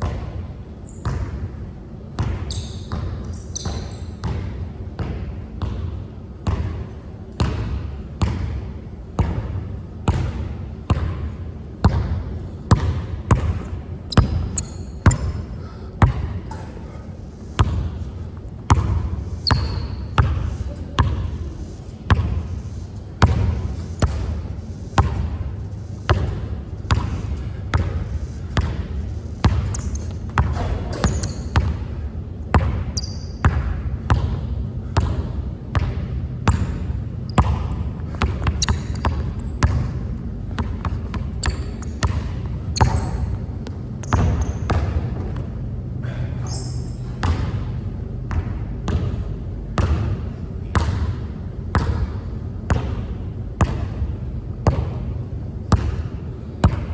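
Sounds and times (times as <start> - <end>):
basketball bouncing on court: 0.0 - 45.5, 46.5 - 55.1, 55.7 - 56.9.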